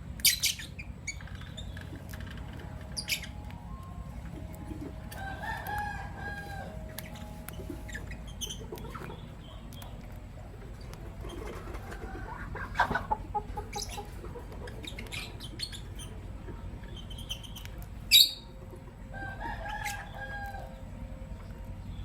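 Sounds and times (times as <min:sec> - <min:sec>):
lovebirds chirping: 0:00.0 - 0:11.7, 0:12.4 - 0:18.8
steady low hum: 0:00.0 - 0:22.0.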